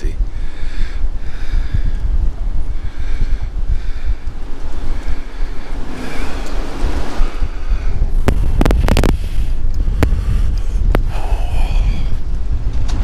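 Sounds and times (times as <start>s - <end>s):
gusting wind buffeting microphone: 0.0s - 13.0s.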